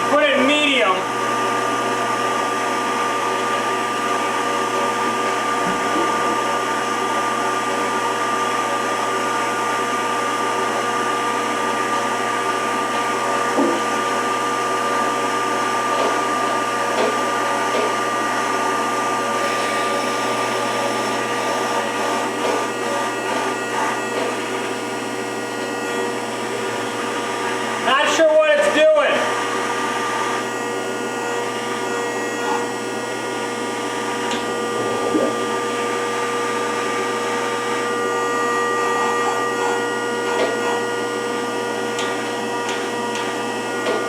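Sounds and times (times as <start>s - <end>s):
hydraulic pump whine: 0.0s - 44.0s.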